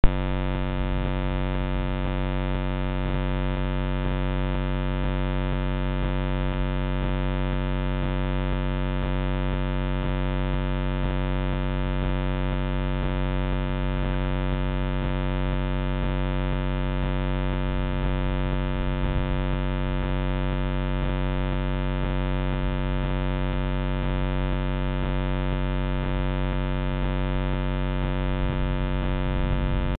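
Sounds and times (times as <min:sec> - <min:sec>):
low electrical buzzing hum: 0:00.0 - 0:30.0.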